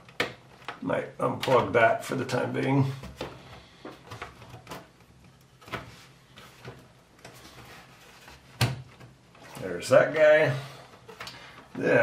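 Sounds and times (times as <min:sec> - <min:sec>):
hands handling cables and metal parts: 0:00.0 - 0:00.8, 0:02.6 - 0:12.0.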